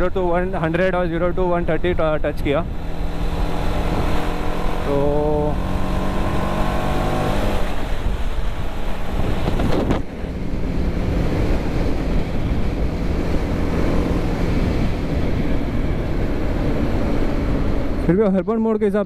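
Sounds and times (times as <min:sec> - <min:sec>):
wind rushing over microphone: 0:00.0 - 0:18.1
motorcycle engine running: 0:02.6 - 0:18.1.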